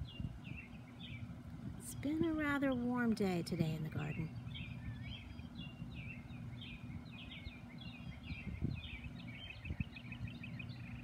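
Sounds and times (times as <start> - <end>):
low steady rumble: 0.0 - 11.0
small birds chirping: 0.0 - 11.0.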